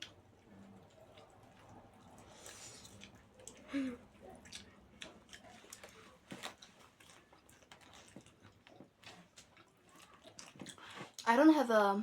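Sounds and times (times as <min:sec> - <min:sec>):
faint chewing: 0:00.0 - 0:11.3.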